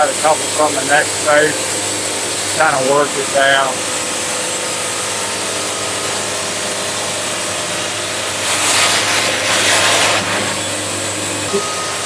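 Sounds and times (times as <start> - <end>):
band sawmill sawing log: 0.0 - 11.6.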